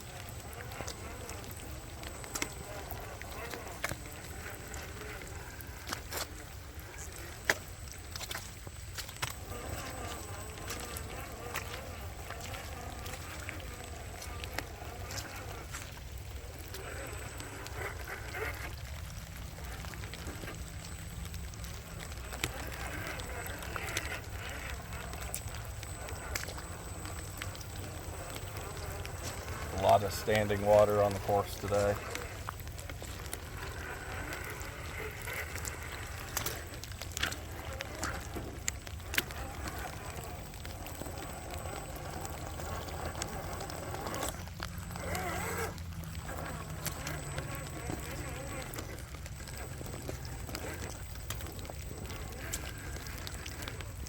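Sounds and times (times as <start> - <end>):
small electric motor humming: 0.0 - 54.0
tyres churning water: 0.0 - 54.0.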